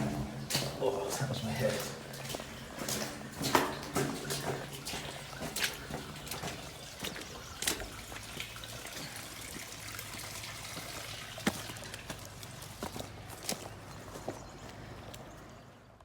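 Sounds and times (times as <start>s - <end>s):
water trickling through culvert: 0.0s - 16.0s.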